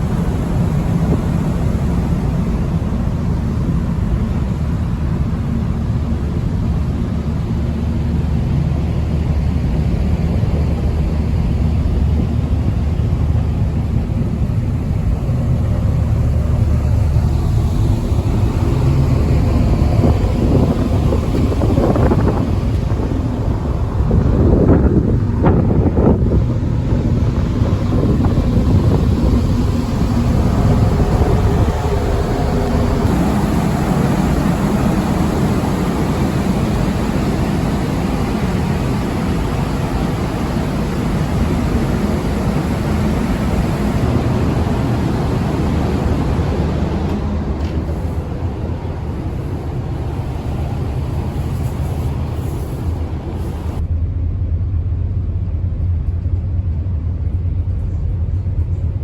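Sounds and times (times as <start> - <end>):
ferry engine rumble: 0.0 - 59.0
wind and sea rushing: 0.0 - 59.0.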